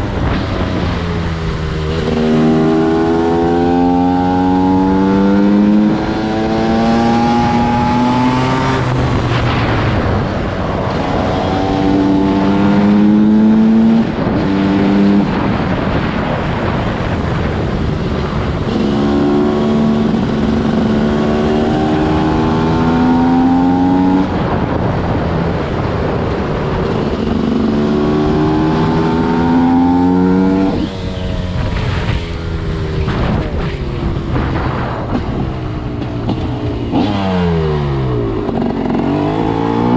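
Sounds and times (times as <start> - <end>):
two-stroke engine at full throttle: 0.0 - 39.9.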